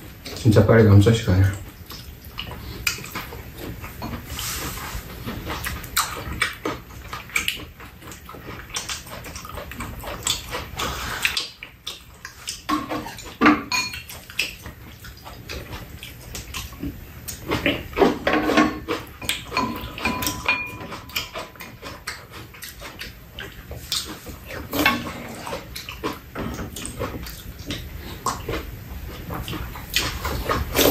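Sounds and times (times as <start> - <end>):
chewing and lip-smacking: 1.5 - 30.9.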